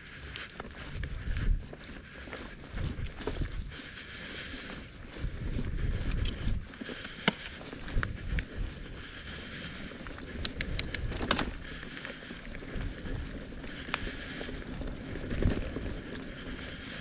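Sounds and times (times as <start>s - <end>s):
bike clicks and rattles: 0.0s - 17.0s
bike tyres rumbling on dirt trail: 0.0s - 17.0s.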